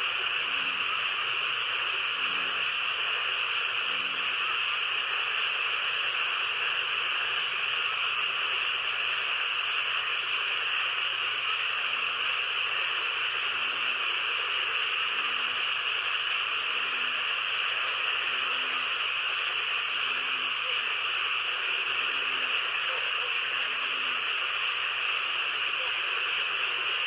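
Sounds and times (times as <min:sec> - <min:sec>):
high-pitched hiss: 0:00.0 - 0:27.0.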